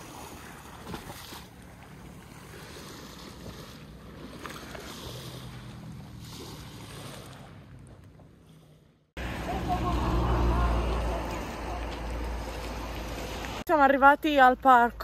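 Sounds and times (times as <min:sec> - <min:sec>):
small waves lapping on stony shore: 0:00.0 - 0:13.6.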